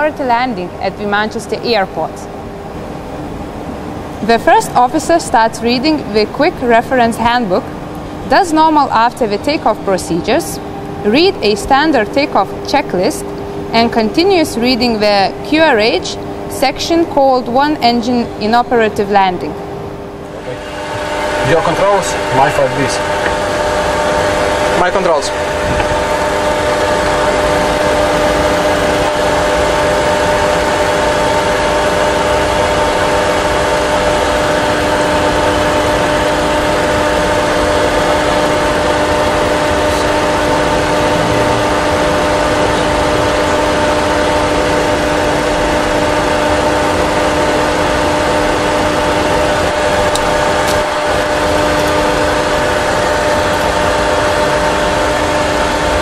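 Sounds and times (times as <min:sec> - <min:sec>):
engine and airflow hum: 0:00.0 - 0:56.0.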